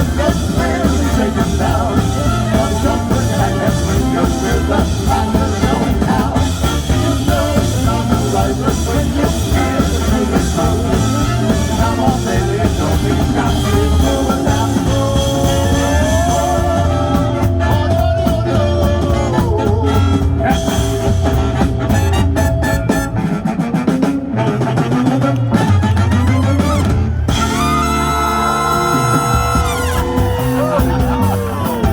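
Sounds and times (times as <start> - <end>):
drums: 0.0 - 31.9
guitar: 0.0 - 31.9.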